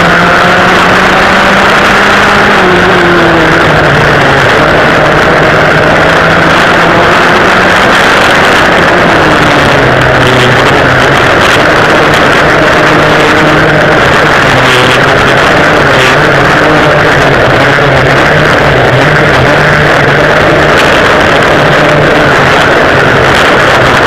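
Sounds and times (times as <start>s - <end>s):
go-kart engines racing: 0.0s - 24.0s.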